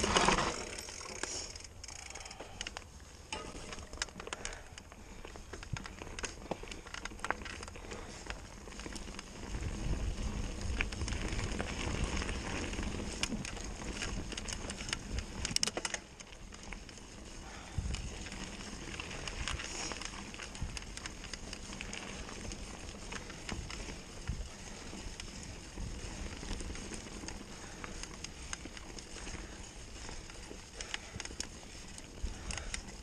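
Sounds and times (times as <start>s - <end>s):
bike rattling and clicking: 0.0s - 33.0s
tyres crunching over dirt: 0.0s - 33.0s.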